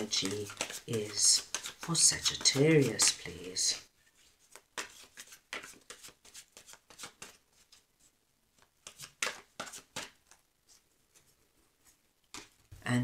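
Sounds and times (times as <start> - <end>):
cards being shuffled: 0.0 - 7.8, 8.5 - 12.6.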